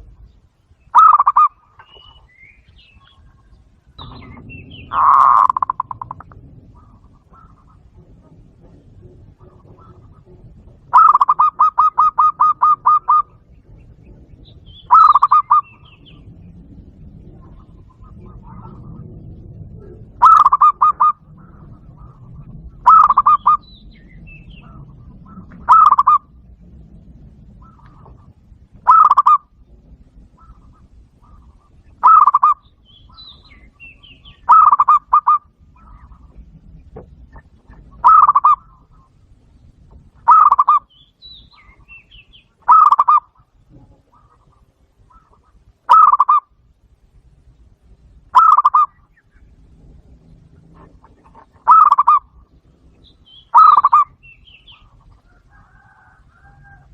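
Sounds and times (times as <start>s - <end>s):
dove cooing: 0.9s - 2.3s, 3.0s - 39.3s, 40.0s - 40.9s, 41.5s - 46.6s, 48.3s - 56.9s.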